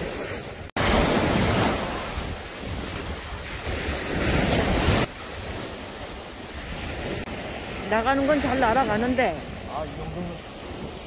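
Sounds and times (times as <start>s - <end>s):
sea surf breaking: 0.0s - 11.0s
wind buffeting microphone: 0.0s - 11.0s.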